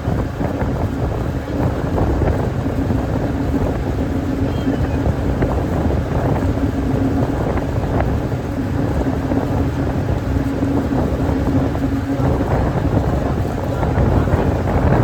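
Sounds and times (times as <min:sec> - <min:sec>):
boat engine humming: 0:00.0 - 0:15.0
wind on microphone: 0:00.0 - 0:15.0.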